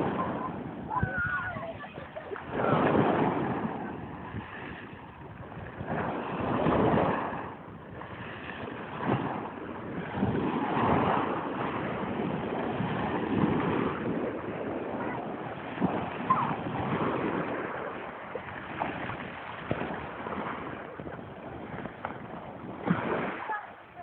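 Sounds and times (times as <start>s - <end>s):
waves breaking on pebbles: 0.0s - 24.0s
wind on microphone: 0.0s - 24.0s.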